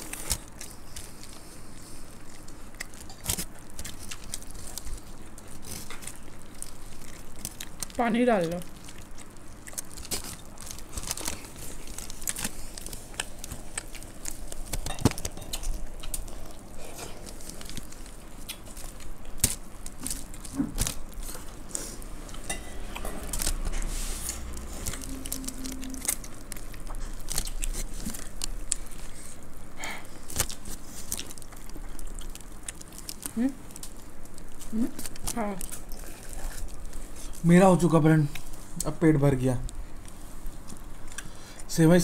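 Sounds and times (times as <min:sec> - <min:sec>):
chewing and crunching puffed rice: 0:00.0 - 0:42.0
fingers rustling through food: 0:00.0 - 0:42.0.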